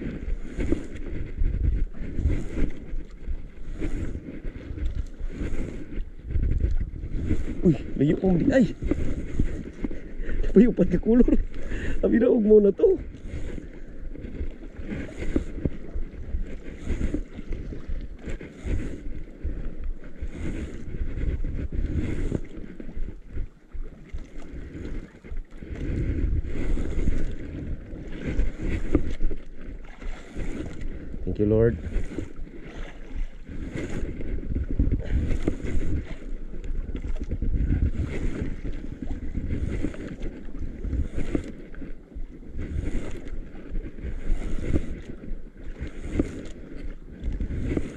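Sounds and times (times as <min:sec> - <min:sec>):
water washing against boat: 0:00.0 - 0:47.9
wind buffeting microphone: 0:00.0 - 0:47.9.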